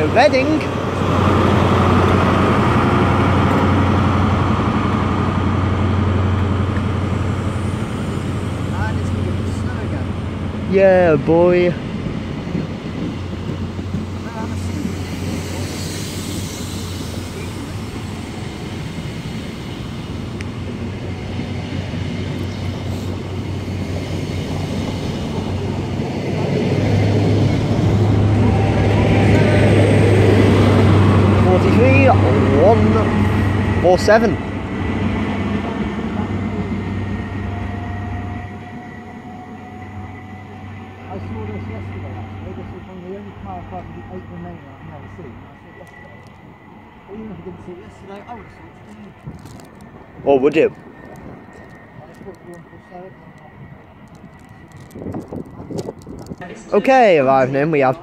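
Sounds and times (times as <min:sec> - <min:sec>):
train diesel engine rumble: 0:00.0 - 0:58.0.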